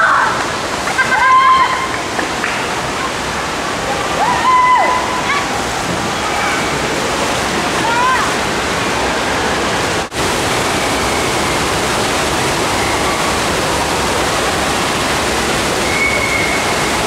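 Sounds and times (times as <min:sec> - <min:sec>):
rushing churning water: 0:00.0 - 0:17.0.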